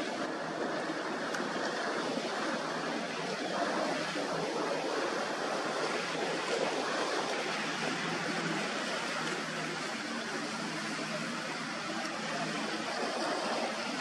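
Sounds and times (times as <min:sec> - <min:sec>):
waves and choppy water: 0:00.0 - 0:14.0
wind on microphone: 0:00.0 - 0:14.0.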